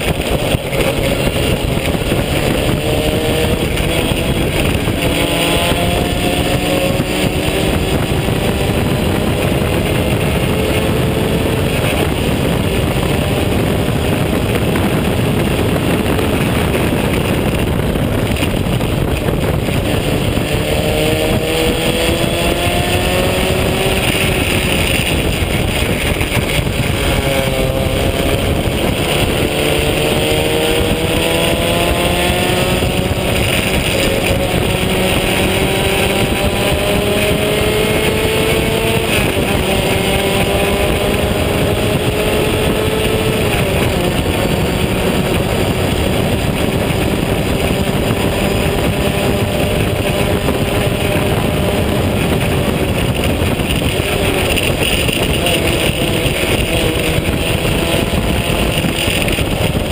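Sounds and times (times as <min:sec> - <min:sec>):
race car engine accelerating: 0:00.0 - 0:59.9
wind and road noise: 0:00.0 - 0:59.9.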